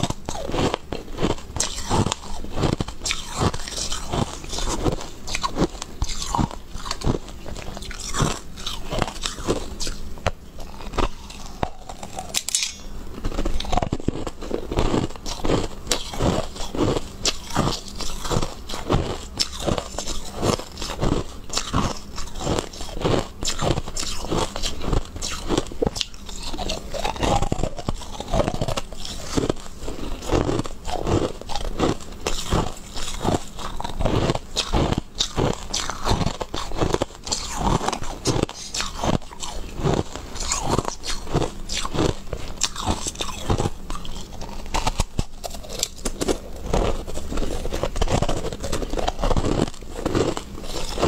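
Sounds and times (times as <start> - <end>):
crisp crunching and chewing: 0.0 - 51.0.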